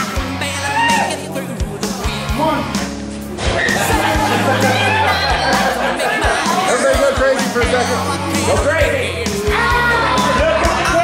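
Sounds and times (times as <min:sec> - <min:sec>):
rock song with singing: 0:00.0 - 0:03.0, 0:03.6 - 0:11.0.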